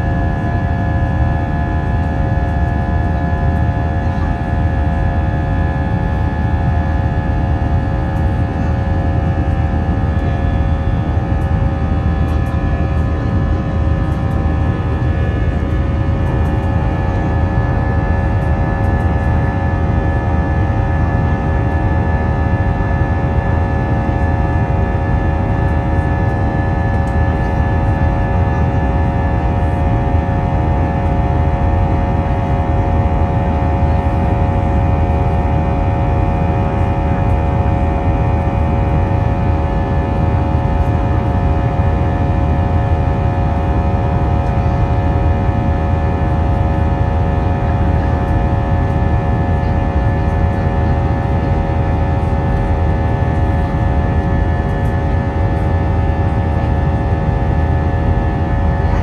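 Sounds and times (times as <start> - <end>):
aircraft cabin low rumble: 0.0 - 59.0.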